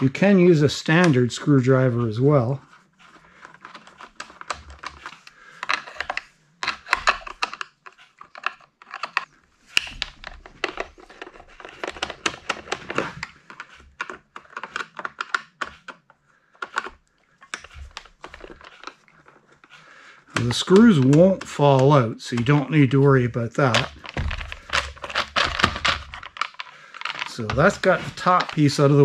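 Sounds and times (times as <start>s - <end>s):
plastic rattling: 2.4s - 29.0s.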